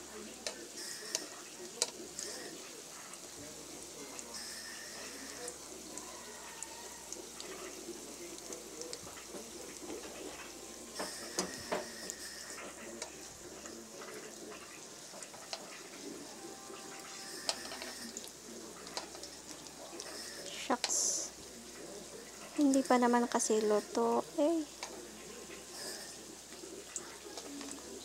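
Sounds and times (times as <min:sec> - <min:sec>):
hot oil sizzling and crackling: 0:00.0 - 0:28.0.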